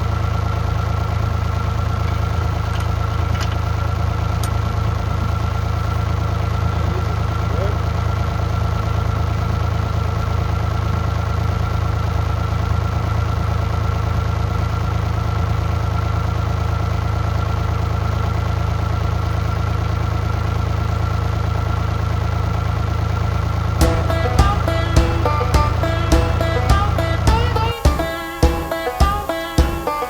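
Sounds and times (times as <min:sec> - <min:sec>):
excavator engine idling: 0:00.0 - 0:30.0.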